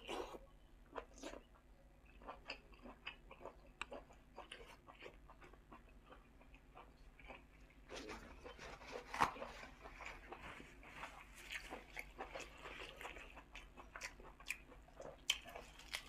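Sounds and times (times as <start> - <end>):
close-up chewing: 0.0 - 16.0.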